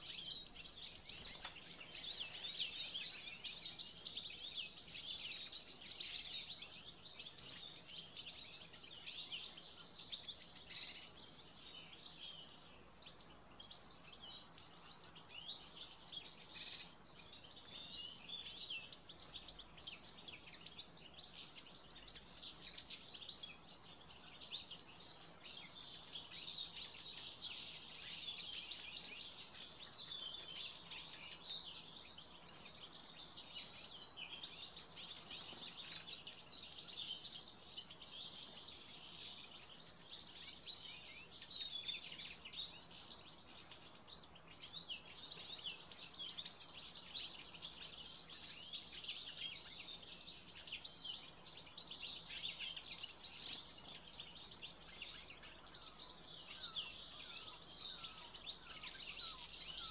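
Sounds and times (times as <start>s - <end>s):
songbirds chorus: 0.0s - 59.9s.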